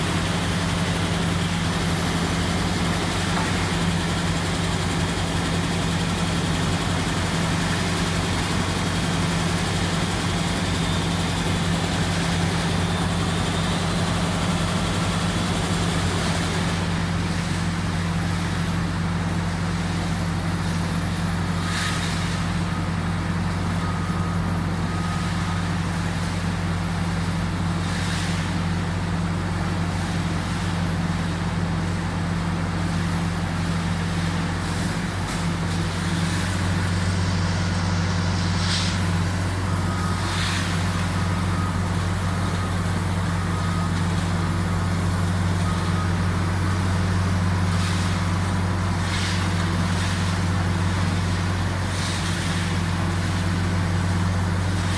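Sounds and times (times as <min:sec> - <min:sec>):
heavy machinery engine running: 0:00.0 - 0:54.9.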